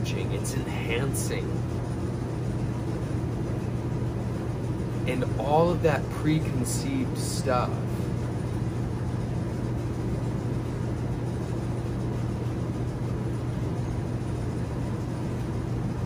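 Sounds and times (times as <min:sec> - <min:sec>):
motor rumbling and humming: 0:00.0 - 0:16.0.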